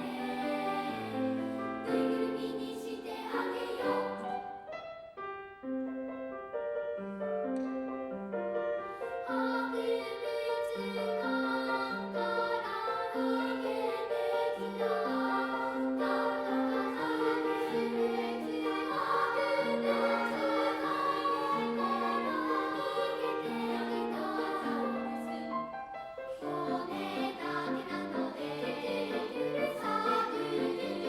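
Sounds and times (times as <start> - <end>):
children's choir singing: 0.0 - 4.7, 9.0 - 31.0
piano accompaniment: 0.0 - 31.0.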